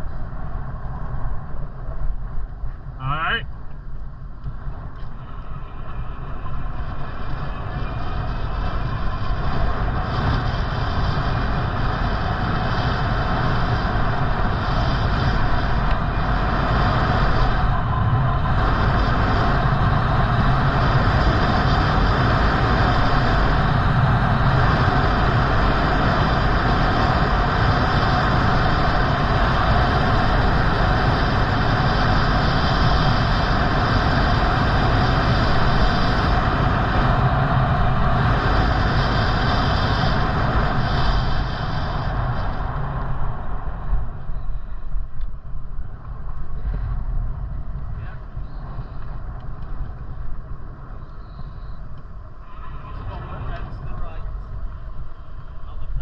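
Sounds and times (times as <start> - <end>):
road noise: 0.0 - 56.0
wind over microphone: 0.0 - 56.0.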